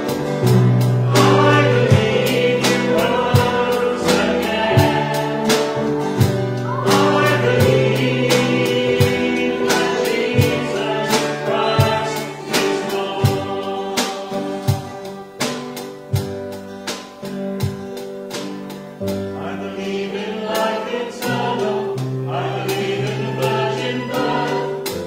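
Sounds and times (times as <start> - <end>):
congregation singing: 0.0 - 16.4, 19.2 - 25.0
electric keyboard: 0.0 - 25.0
strummed acoustic guitar: 0.0 - 25.0.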